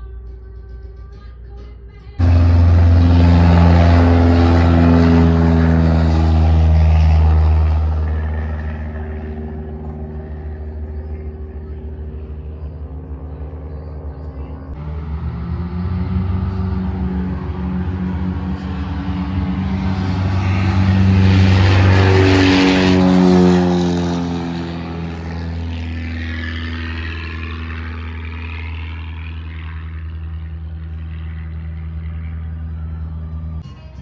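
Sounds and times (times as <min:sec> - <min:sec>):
propeller aircraft engine drone: 0:02.2 - 0:34.0.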